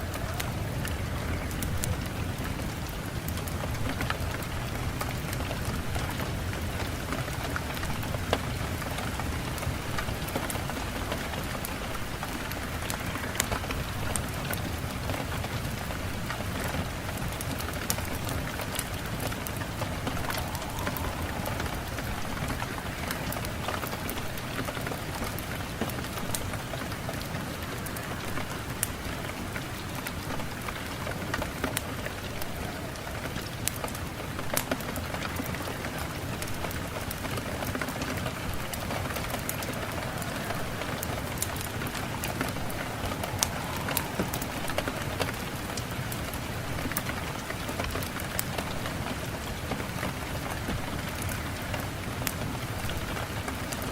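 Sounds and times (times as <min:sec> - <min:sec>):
raindrops clicking close by: 0:00.0 - 0:53.9
steady rain falling: 0:00.0 - 0:53.9.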